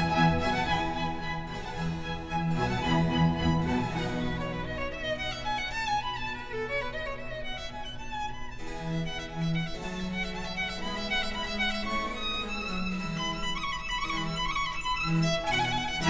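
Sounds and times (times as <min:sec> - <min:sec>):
orchestra playing baroque piece: 0:00.0 - 0:16.0.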